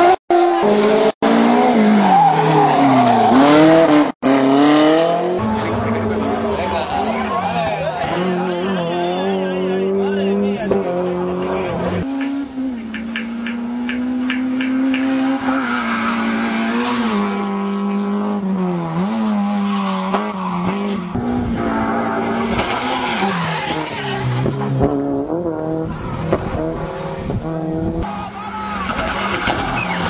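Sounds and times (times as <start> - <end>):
rally car engine at high revs: 0.0 - 28.1.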